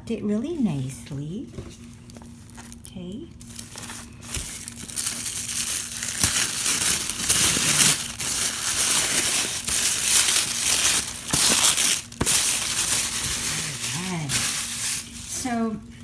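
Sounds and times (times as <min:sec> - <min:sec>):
packaging wrap crinkling: 0:01.7 - 0:15.6.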